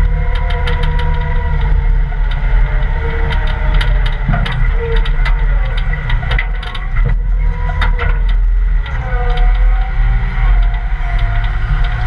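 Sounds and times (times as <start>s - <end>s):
diesel engine running hard: 0.0s - 12.0s.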